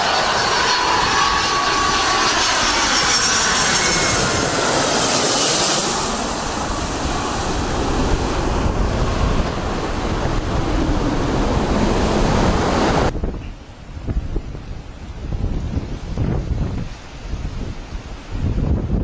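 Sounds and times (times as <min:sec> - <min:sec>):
jet engines roaring overhead: 0:00.0 - 0:19.0
wind buffeting microphone: 0:00.0 - 0:19.0.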